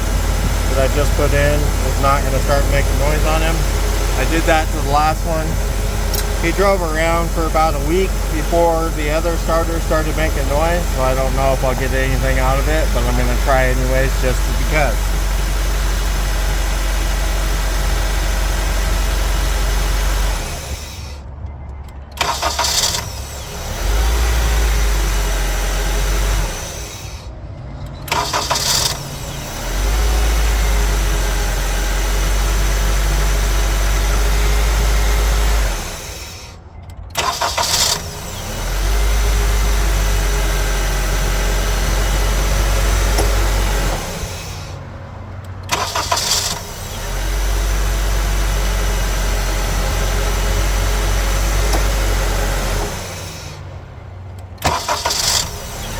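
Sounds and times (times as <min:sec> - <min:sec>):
car engine starting and idling: 0:00.0 - 0:55.9
starter motor cranking: 0:00.0 - 0:55.9.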